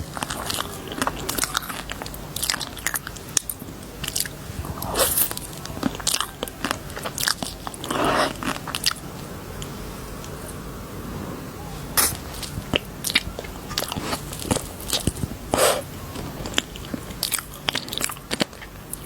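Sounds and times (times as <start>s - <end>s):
candy crunching: 0.0s - 10.6s, 12.0s - 19.0s.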